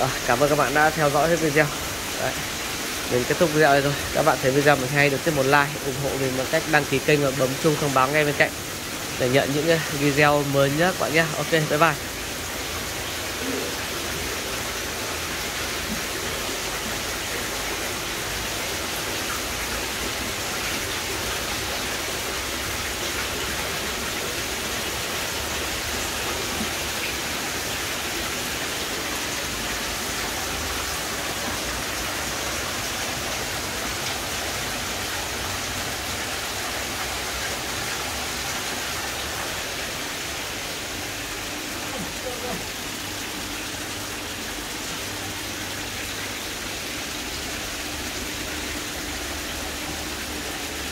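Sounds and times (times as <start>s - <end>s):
water splashing from a pipe: 0.0s - 50.9s.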